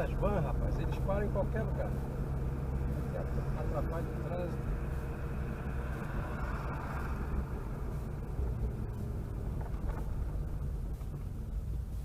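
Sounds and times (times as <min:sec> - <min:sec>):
car engine rumbling while driving: 0:00.0 - 0:12.0.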